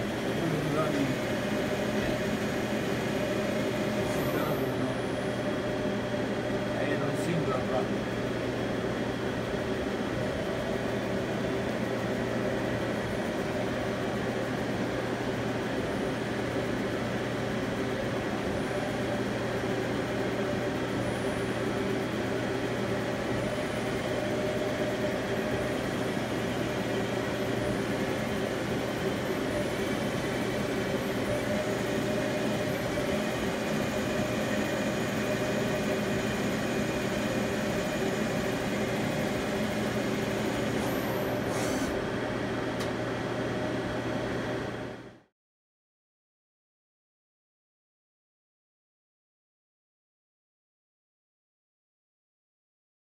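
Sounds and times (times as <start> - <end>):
lathe machine hum: 0.0 - 45.2.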